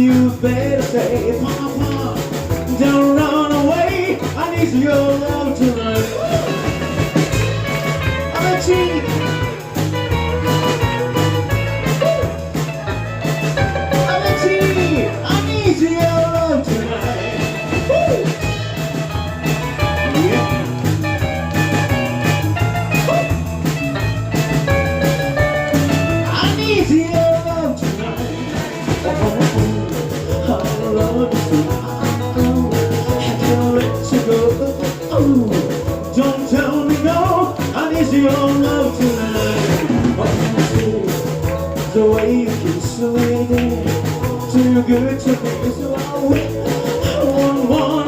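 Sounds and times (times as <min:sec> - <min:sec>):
bass line: 0:00.0 - 0:48.0
drums steady beat: 0:00.0 - 0:48.0
live rock band playing: 0:00.0 - 0:48.0
lead instrument bending notes: 0:02.8 - 0:48.0.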